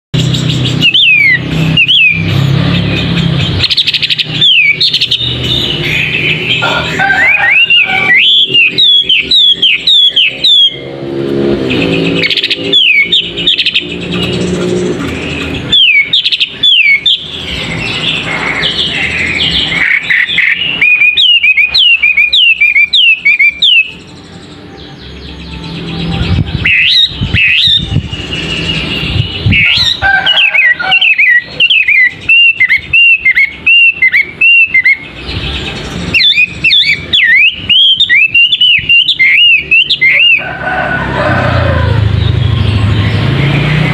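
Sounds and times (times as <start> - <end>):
songbird whistled song: 0.2 - 11.0, 11.6 - 40.5.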